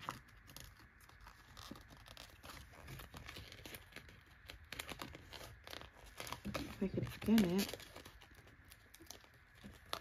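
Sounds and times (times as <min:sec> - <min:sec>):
paper rustling and ticking: 0:00.0 - 0:10.0.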